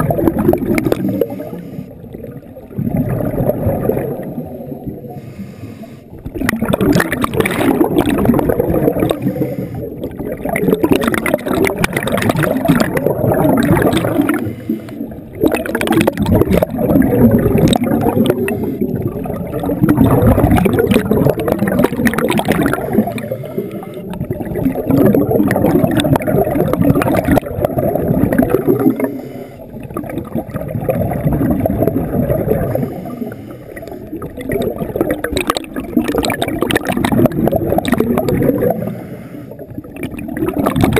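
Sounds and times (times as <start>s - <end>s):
scuba exhaust bubbles gurgling: 0.0s - 40.9s.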